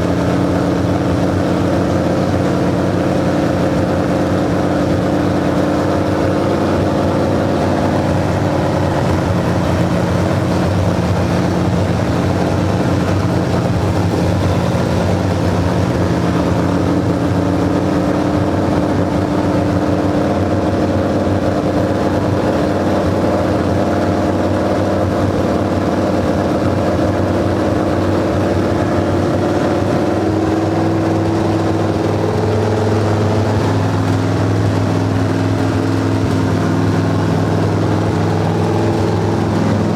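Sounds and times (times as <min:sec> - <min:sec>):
race car engine idling: 0:00.0 - 0:39.9.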